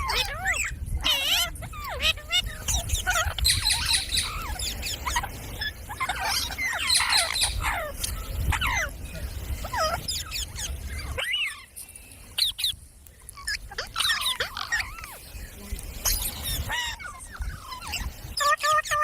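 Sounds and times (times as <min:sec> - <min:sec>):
parrots chirping and squawking: 0:00.0 - 0:19.0.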